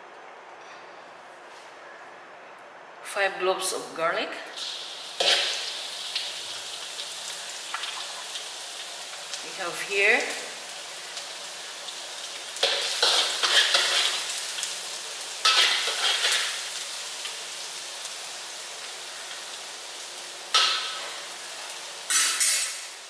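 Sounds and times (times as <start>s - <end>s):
garlic sizzling in oil: 4.5s - 23.0s.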